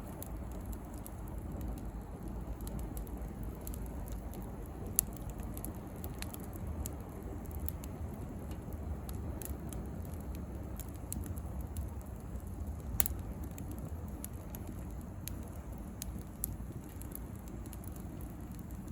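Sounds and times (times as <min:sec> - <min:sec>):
bonfire crackling and popping: 0:00.0 - 0:18.9
low rush of flames: 0:00.0 - 0:18.9.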